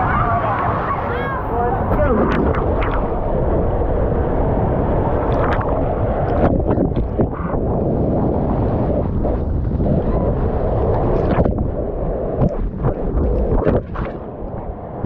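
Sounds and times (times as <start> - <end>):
water rushing through slide tube: 0.0 - 15.0
wind noise on microphone: 0.0 - 15.0.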